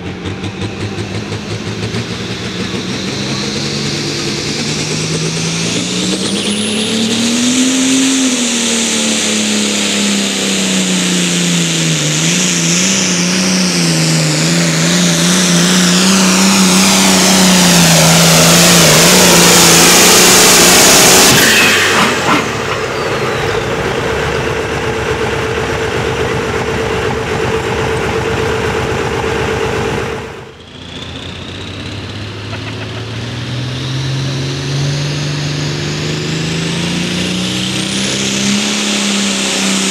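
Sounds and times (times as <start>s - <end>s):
pulling tractor engine at full throttle: 0.0s - 39.9s
tractor engine revving: 0.0s - 39.9s.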